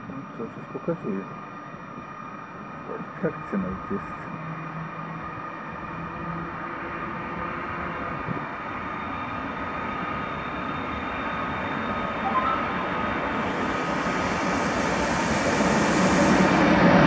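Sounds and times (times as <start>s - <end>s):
train rumbling into station: 0.0s - 17.0s.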